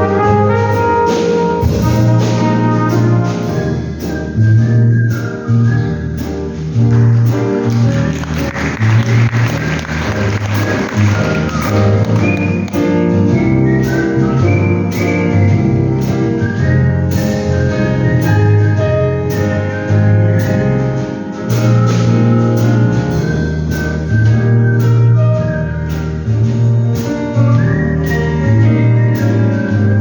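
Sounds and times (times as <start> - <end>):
bass-heavy instrumental music: 0.0 - 30.0
whistled melody: 0.0 - 30.0.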